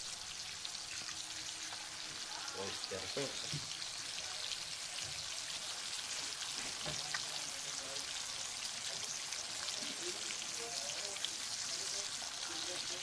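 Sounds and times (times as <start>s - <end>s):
shrimp sizzling in a wok: 0.0s - 13.0s.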